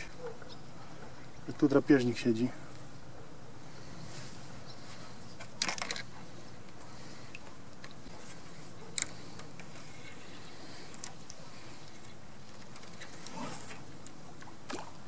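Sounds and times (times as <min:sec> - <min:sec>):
low outdoor hiss: 0:00.0 - 0:15.0.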